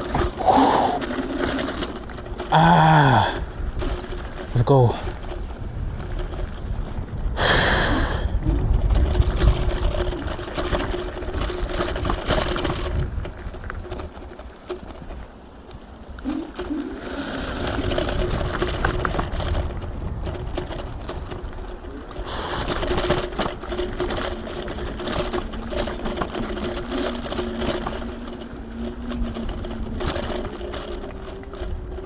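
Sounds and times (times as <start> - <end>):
clicks and rattles: 0.0 - 6.9, 8.5 - 32.0.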